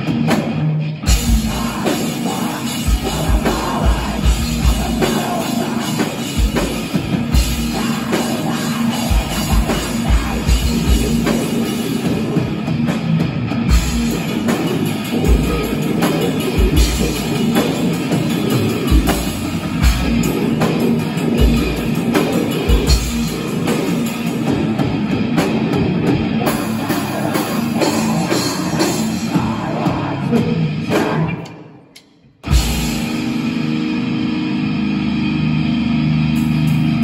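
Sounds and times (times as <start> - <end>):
distorted guitar: 0.0 - 37.0
drum kit: 0.0 - 37.0.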